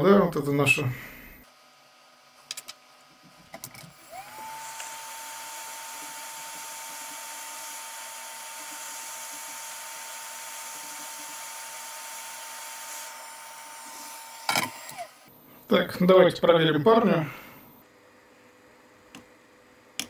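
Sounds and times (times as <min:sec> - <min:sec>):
hot-air station fan whine: 0:00.0 - 0:20.0.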